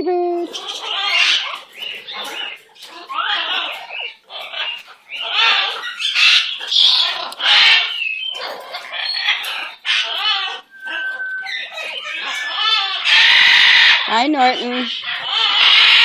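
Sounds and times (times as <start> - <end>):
parrot calling: 0.4 - 16.0.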